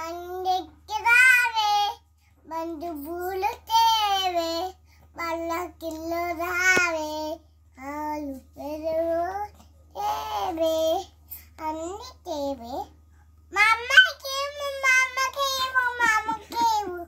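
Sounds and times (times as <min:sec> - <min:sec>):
child singing unaccompanied: 0:00.0 - 0:17.0.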